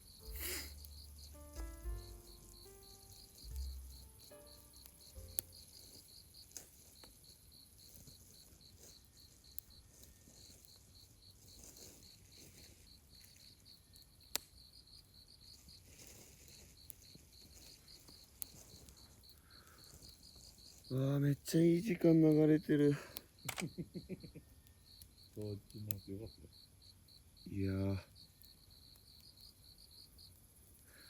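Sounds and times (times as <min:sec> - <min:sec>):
campfire pops: 0:00.0 - 0:26.5
crickets chirping: 0:00.0 - 0:31.0.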